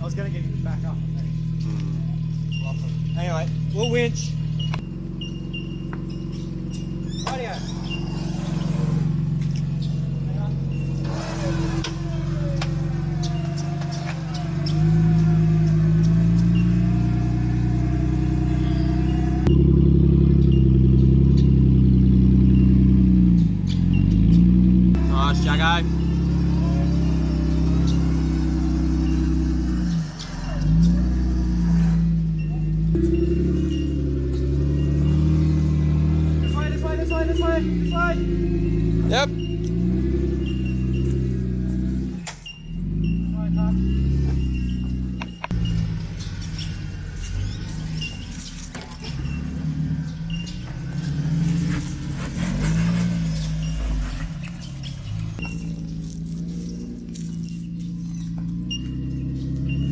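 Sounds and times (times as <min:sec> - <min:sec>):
off-road vehicle engine running: 0:00.0 - 0:59.9
short high squeaks: 0:01.6 - 0:19.6, 0:25.1 - 0:38.4, 0:39.0 - 0:59.9.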